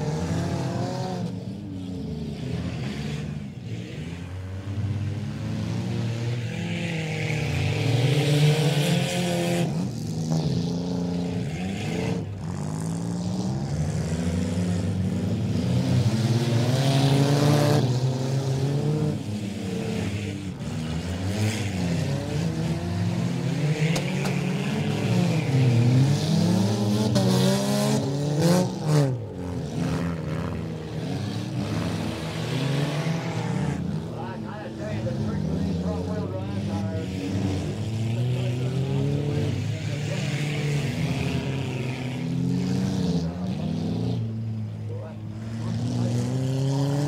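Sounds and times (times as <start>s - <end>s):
race car engines revving: 0.0s - 47.0s.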